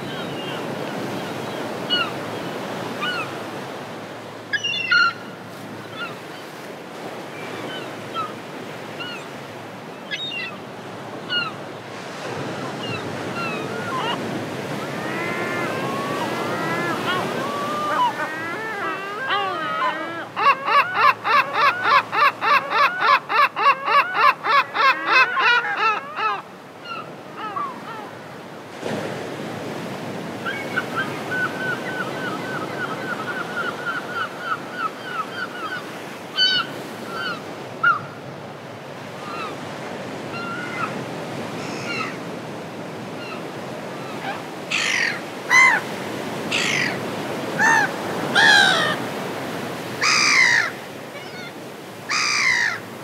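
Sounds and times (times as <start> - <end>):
seagulls calling: 0.0 - 3.7, 4.4 - 28.2, 30.3 - 38.2, 39.2 - 42.4, 43.1 - 53.0.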